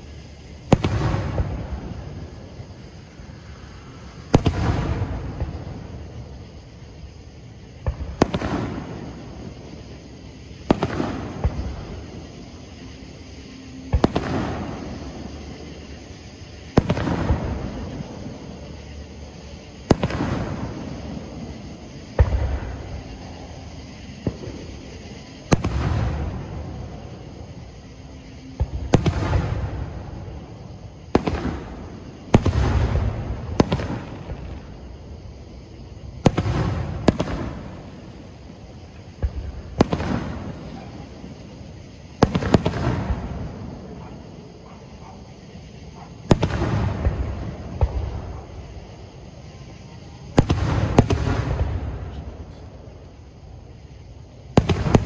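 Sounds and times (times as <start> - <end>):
fireworks booming with echo: 0.0 - 55.0.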